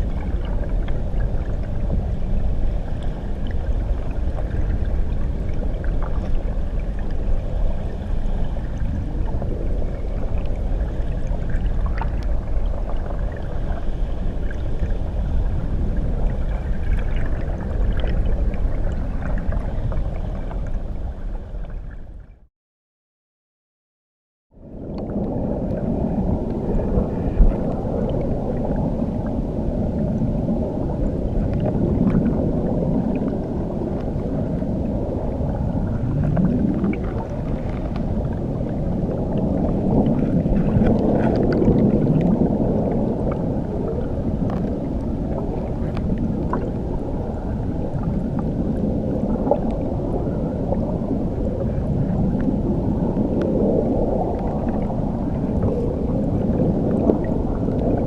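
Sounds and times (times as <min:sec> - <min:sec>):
muffled underwater waterfall rumble: 0:00.0 - 0:22.5, 0:24.5 - 0:58.0.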